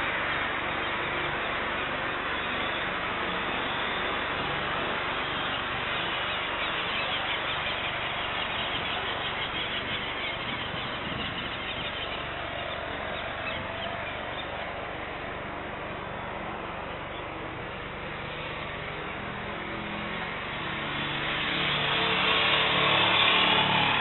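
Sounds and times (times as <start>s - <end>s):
distant jet engines taxiing: 0.0s - 24.0s.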